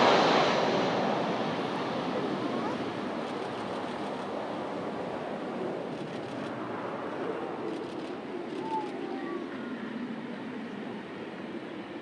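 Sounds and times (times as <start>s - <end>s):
jet airliner engine roar: 0.0s - 12.0s.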